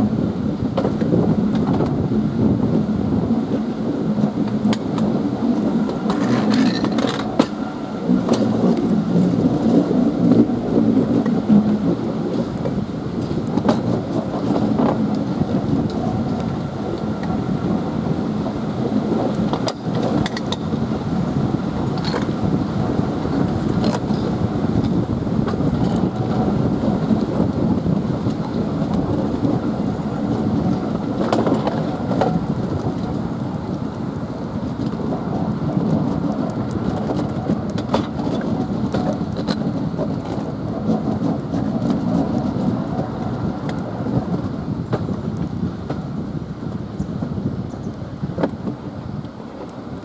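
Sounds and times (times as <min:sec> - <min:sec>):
train rumble in cab: 0:00.0 - 0:50.0.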